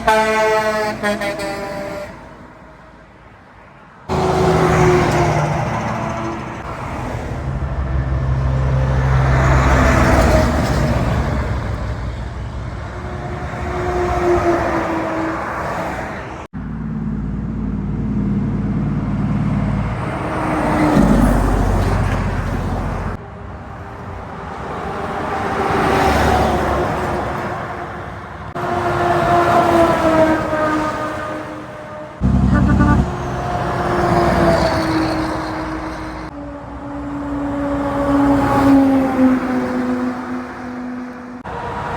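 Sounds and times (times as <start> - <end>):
heavy trucks passing on highway: 0.0 - 41.9.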